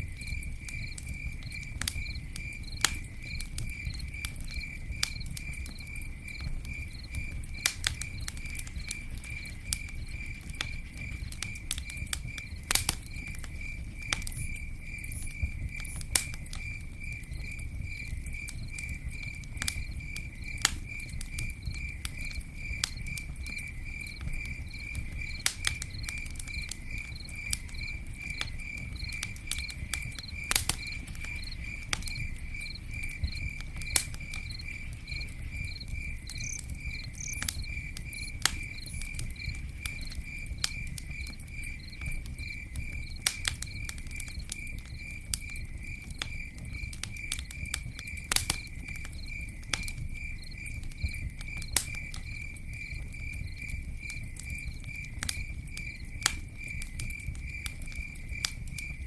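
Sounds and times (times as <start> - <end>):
campfire crackling and popping: 0.0 - 59.0
insect chirping: 0.0 - 59.0.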